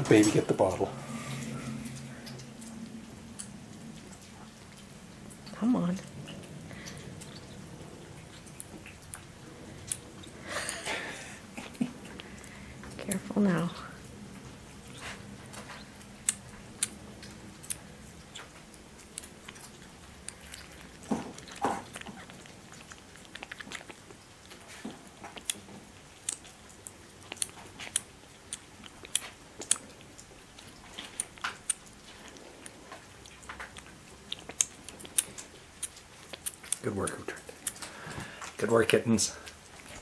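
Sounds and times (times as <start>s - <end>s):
kittens eating wet clicks: 0.0s - 40.0s.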